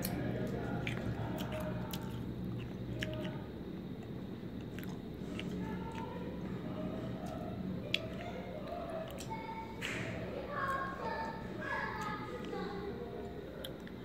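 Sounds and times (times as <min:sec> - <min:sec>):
chewing crunchy seeds: 0:00.0 - 0:14.0
steady low hum: 0:00.0 - 0:14.0.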